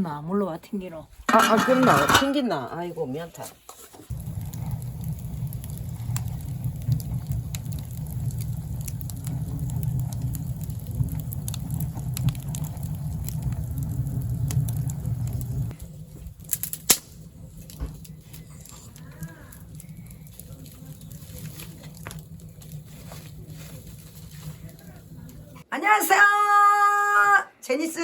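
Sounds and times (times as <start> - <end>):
fire crackling: 1.1 - 25.7
wood fire rumbling: 1.3 - 3.2, 3.8 - 25.7.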